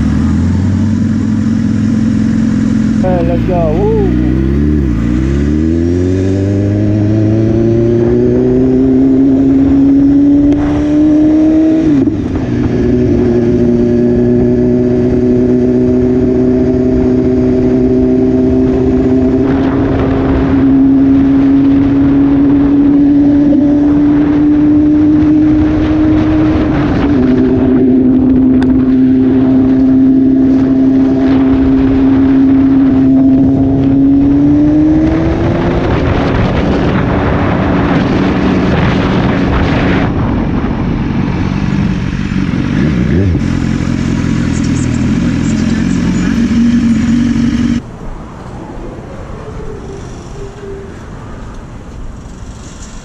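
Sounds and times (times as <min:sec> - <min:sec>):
motorcycle engine accelerating: 0:00.0 - 0:48.0
wind noise: 0:03.0 - 0:53.0.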